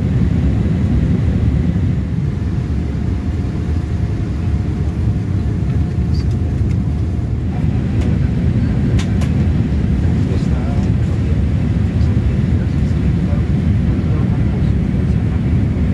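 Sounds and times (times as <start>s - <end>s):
airliner cabin engine drone: 0.0s - 15.9s.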